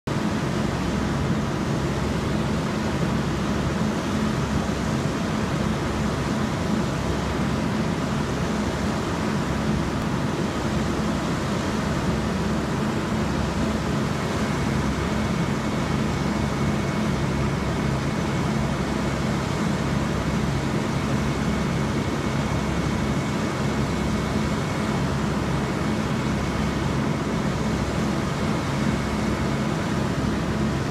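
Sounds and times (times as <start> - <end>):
steady mechanical drone: 0.1 - 30.9.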